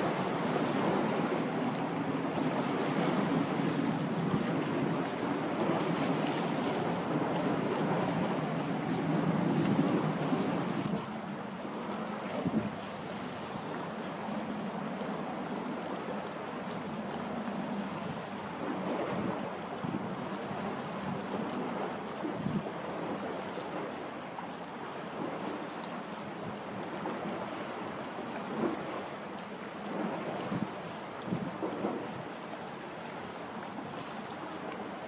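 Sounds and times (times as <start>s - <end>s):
water: 0.0s - 35.0s
wind: 0.0s - 35.0s.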